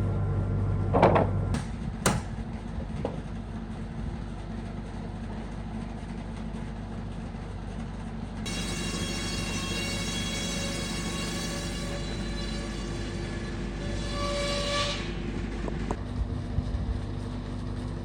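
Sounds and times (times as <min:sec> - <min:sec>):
sawmill machinery rumbling: 0:00.0 - 0:18.0.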